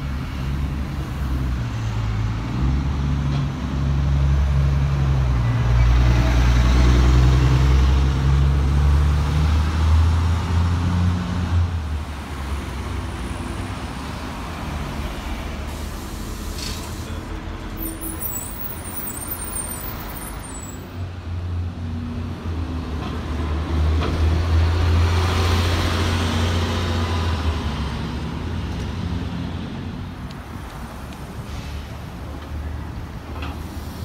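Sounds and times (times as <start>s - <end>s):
street traffic: 0.0s - 34.0s.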